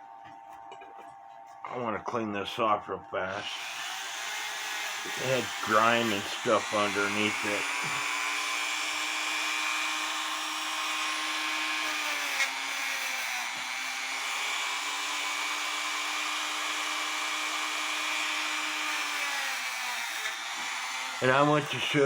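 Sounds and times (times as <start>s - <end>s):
rotary power tool whining: 3.4s - 22.0s.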